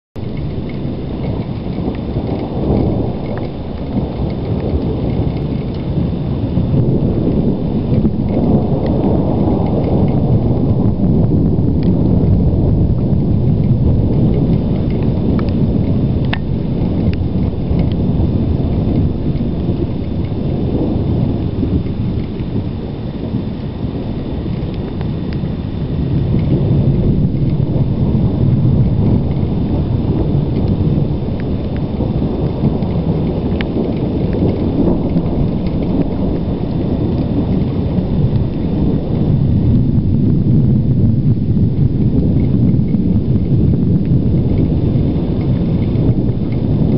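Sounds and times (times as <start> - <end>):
distant thunder rumbling: 0.2 - 46.9.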